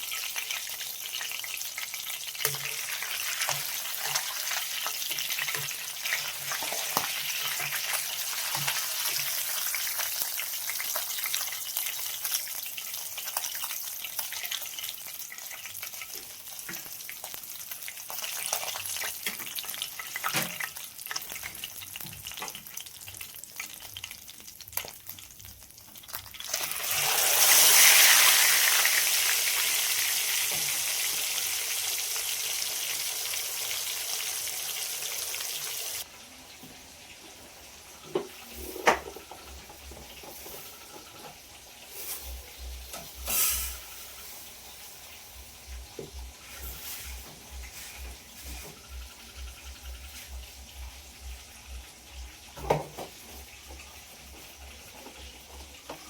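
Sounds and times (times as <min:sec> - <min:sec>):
food frying in hot oil: 0:00.0 - 0:56.0.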